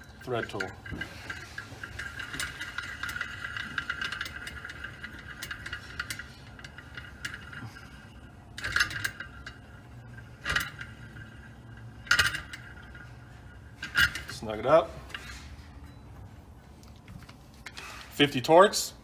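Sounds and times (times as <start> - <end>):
small metal clinks and scrapes: 0.0 - 18.4.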